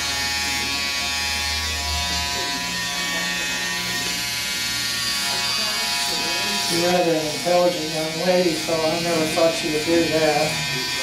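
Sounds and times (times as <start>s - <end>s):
electric hair clippers buzzing: 0.0s - 11.0s.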